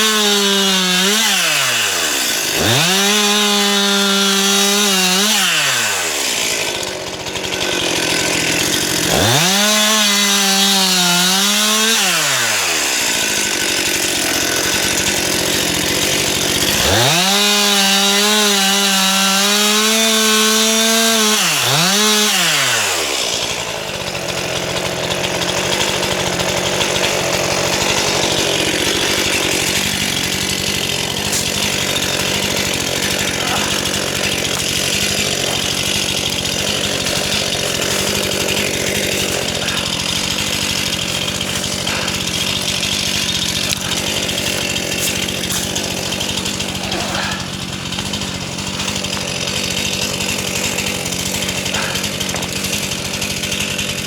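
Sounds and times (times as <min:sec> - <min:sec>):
chainsaw revving cutting wood: 0:00.0 - 0:54.0.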